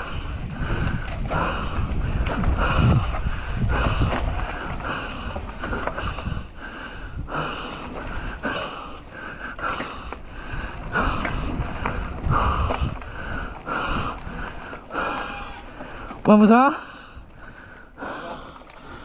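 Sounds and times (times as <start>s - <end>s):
person breathing hard: 0.0s - 16.2s, 16.8s - 19.0s.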